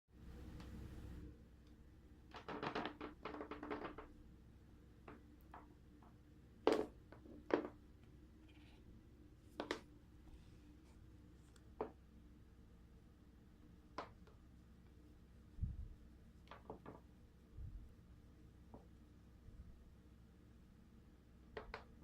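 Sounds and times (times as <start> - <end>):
low steady hum: 0.1 - 2.4, 3.8 - 22.0.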